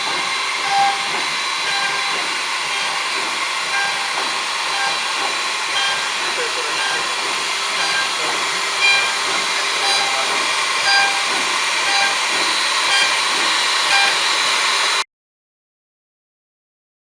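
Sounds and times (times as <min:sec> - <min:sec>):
drilling machine hissing: 0:00.0 - 0:15.0.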